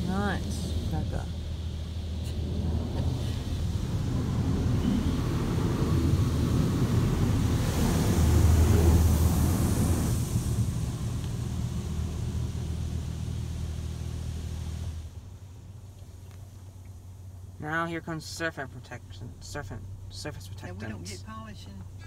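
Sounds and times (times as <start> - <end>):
low rumble: 0.0 - 22.0
water jets hissing: 0.0 - 22.0.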